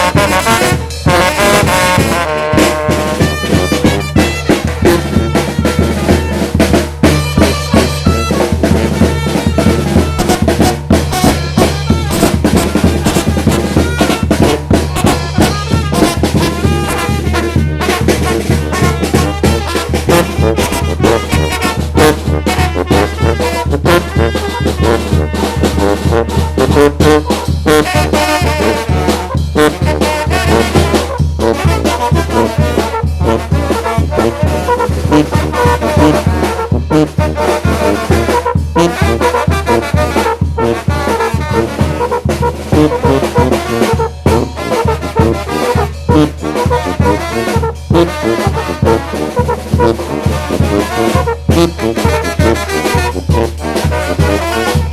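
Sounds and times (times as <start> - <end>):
driving drum beat: 0.0 - 54.9
trumpets and trombones: 0.0 - 54.9.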